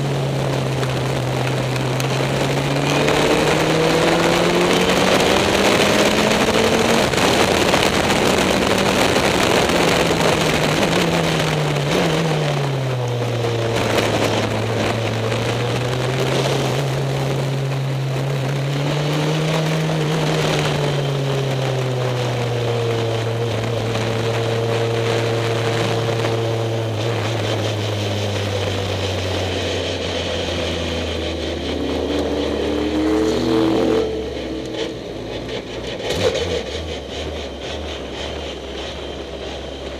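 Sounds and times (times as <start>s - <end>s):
sports car engine revving: 0.0s - 39.9s
wind rush: 0.0s - 39.9s.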